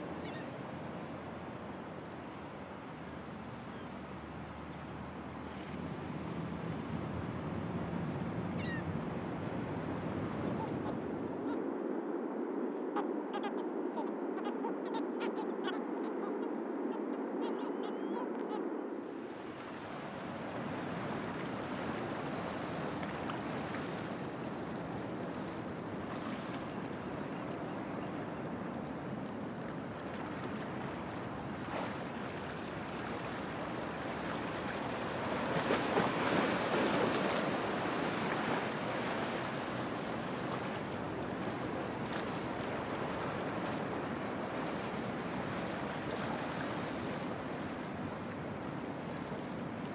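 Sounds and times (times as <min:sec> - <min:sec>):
wind over sea water: 0:00.0 - 0:49.9.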